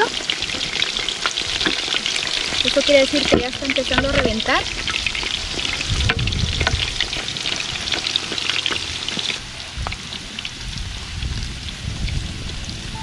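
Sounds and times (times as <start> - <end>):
pork skins sizzling in hot oil: 0.0 - 13.0.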